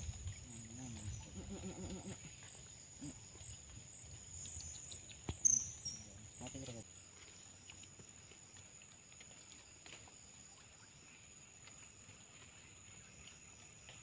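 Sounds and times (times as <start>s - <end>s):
insects chirping trill: 0.0s - 14.0s.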